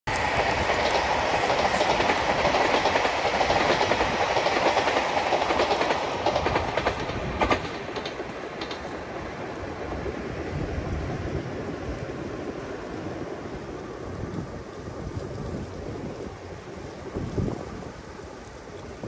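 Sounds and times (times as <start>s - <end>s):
diesel train running past: 0.1s - 19.0s
wheels clicking over rail joints: 0.1s - 19.0s.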